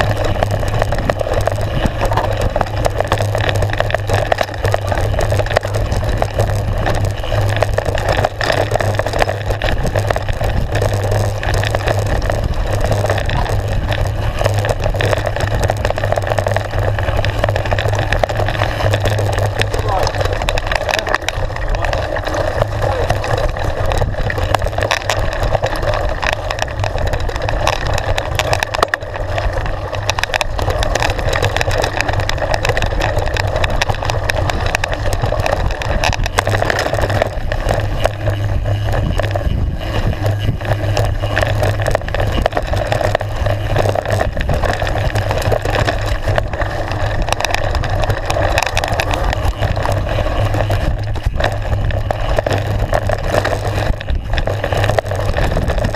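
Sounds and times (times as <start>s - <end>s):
tyres rumbling over gravel: 0.0s - 55.9s.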